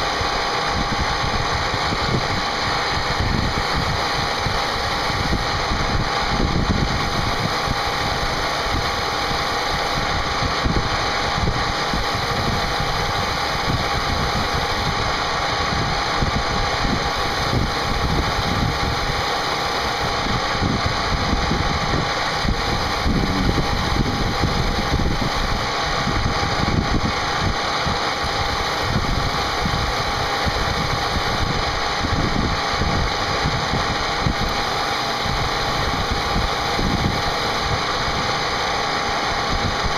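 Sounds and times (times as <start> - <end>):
spindle whine: 0.0 - 39.9.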